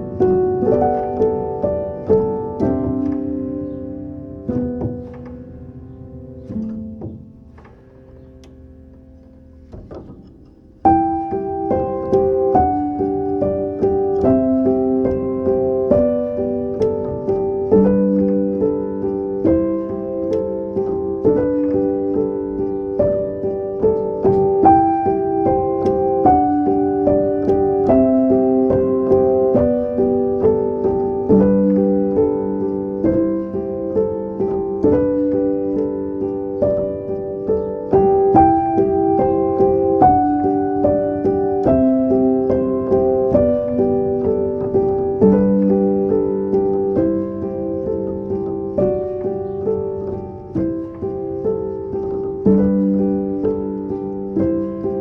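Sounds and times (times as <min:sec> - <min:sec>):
solo piano piece: 0:00.0 - 0:55.0.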